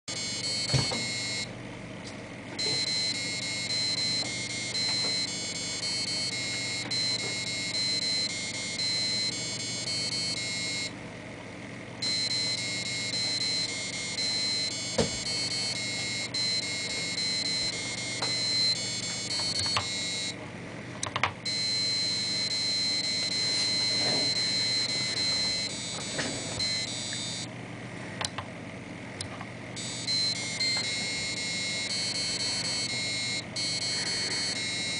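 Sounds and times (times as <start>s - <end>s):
buzzer beeping melody: 0.1s - 1.5s, 2.6s - 11.0s, 12.0s - 20.4s, 21.4s - 27.5s, 29.8s - 34.9s.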